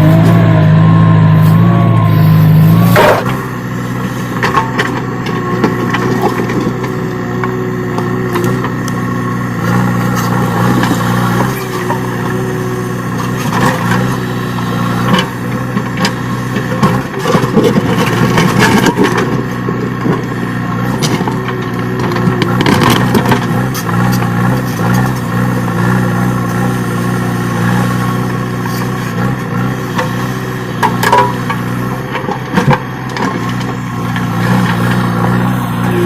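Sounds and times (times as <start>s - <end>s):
diesel engine under load: 0.0s - 36.0s
digging knocks and clatter: 2.8s - 9.0s, 9.6s - 26.7s, 27.6s - 36.0s.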